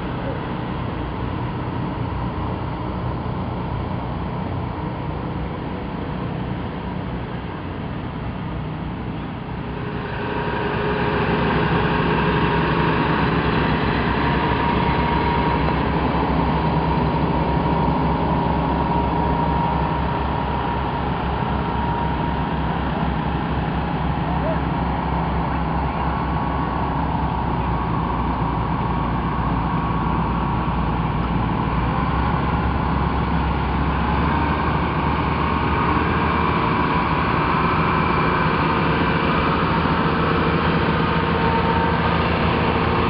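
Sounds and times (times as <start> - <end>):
farm vehicle engines: 0.0 - 43.0
tractor driving past: 0.0 - 43.0.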